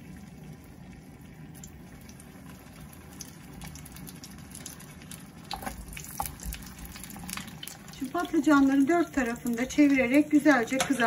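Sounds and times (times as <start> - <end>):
aubergines sizzling in oil: 0.0 - 11.0.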